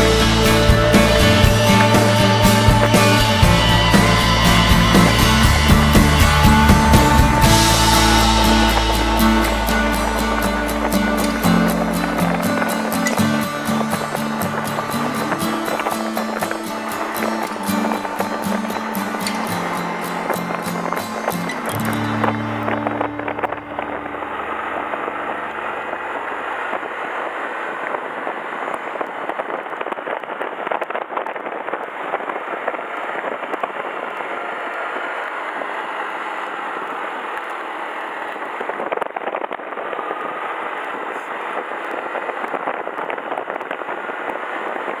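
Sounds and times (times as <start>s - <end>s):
wind and road noise: 0.0s - 45.0s
small crackles: 6.0s - 45.0s.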